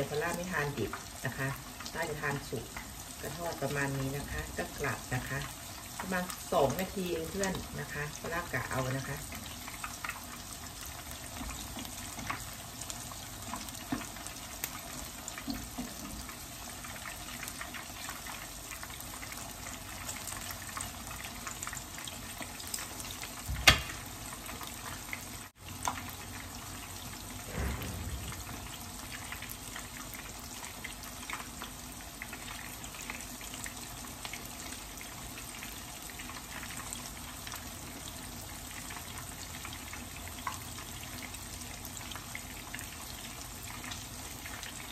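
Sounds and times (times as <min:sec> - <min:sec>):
fish frying in hot oil: 0:00.0 - 0:44.9.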